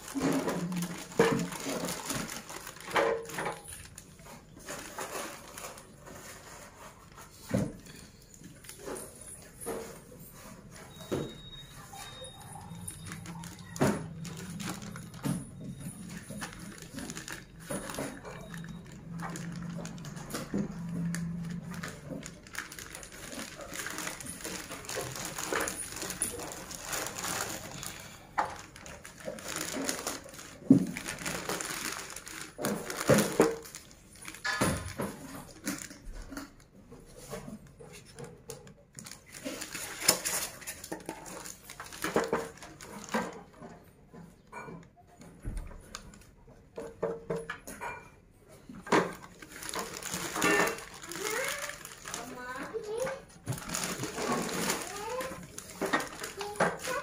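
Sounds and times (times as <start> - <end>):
plastic wrapping crinkling: 0.0 - 57.0.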